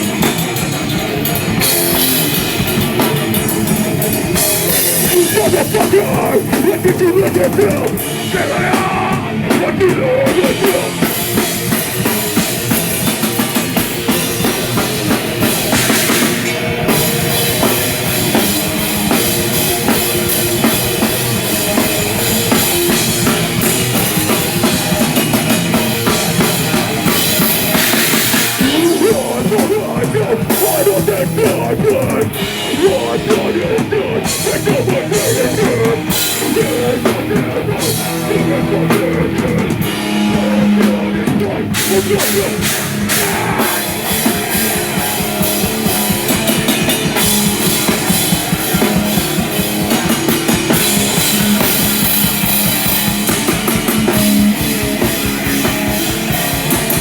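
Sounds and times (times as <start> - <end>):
heavy rock band playing: 0.0 - 57.0.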